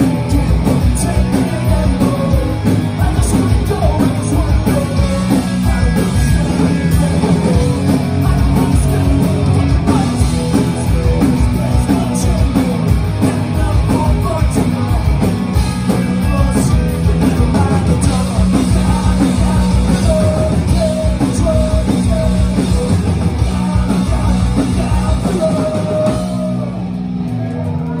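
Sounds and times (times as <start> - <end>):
person singing: 0.0 - 15.3, 15.9 - 28.0
punk rock band playing live: 0.0 - 28.0.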